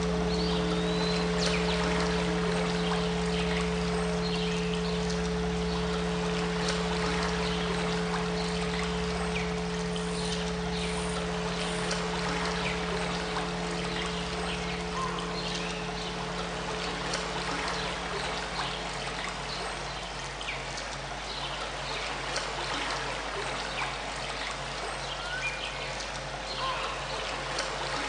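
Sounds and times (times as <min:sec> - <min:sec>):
low hum tones: 0:00.0 - 0:28.0
stream water flowing: 0:00.0 - 0:28.0.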